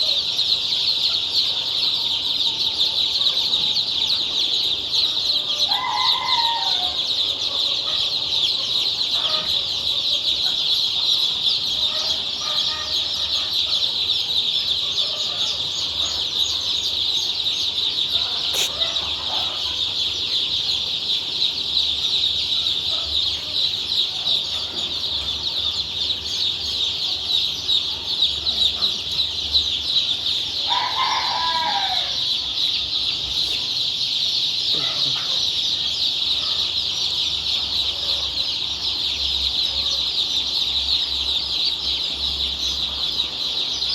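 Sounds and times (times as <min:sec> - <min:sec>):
chicks peeping: 0:00.0 - 0:43.9
louder lower chick calls: 0:00.1 - 0:43.9.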